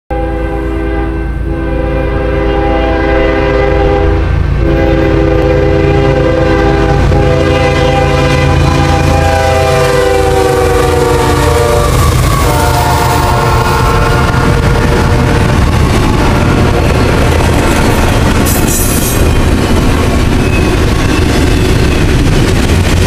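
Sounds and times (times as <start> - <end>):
locomotive air horn blasts: 0.1 - 19.2
train rumble: 0.1 - 23.0.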